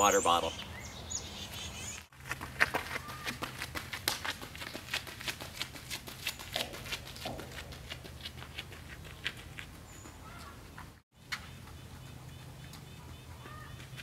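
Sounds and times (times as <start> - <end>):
running footsteps: 2.0 - 14.0.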